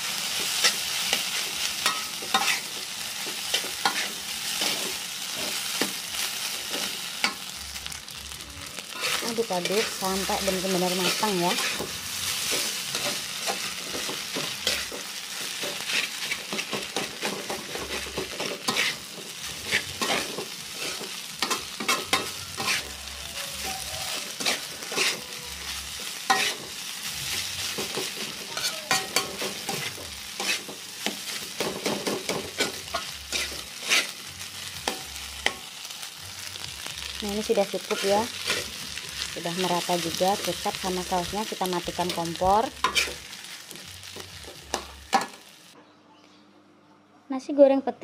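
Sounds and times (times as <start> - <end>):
rice sizzling in a wok: 0.0 - 45.8
metal spatula scraping a pan: 0.2 - 7.5, 8.7 - 35.6, 37.8 - 39.4, 42.0 - 45.4.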